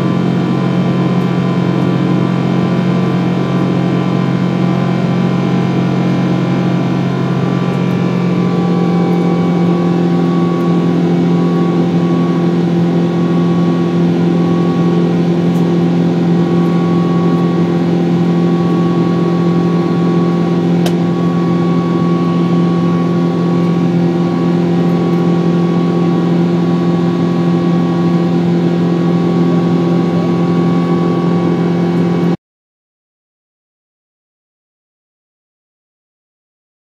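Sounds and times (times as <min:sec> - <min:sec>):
jet engine cabin drone: 0:00.0 - 0:32.4.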